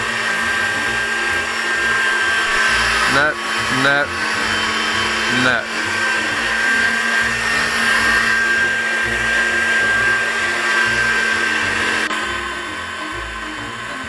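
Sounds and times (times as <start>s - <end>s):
meat grinder motor whirring: 0.0s - 14.0s.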